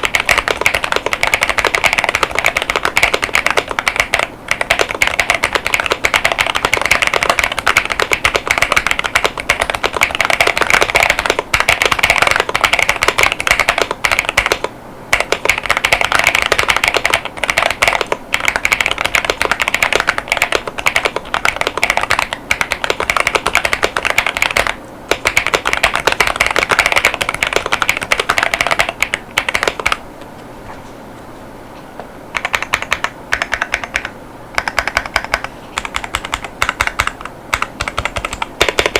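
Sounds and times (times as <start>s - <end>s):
mechanical keyboard typing: 0.0s - 30.0s, 32.4s - 38.9s.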